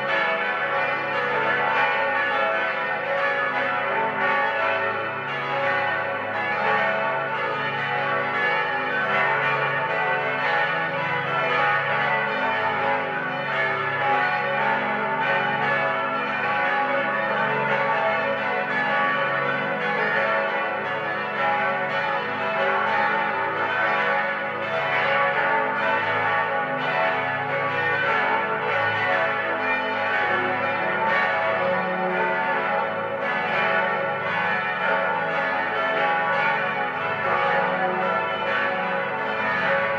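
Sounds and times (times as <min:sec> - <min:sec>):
church bells ringing in a peal: 0:00.0 - 0:39.9.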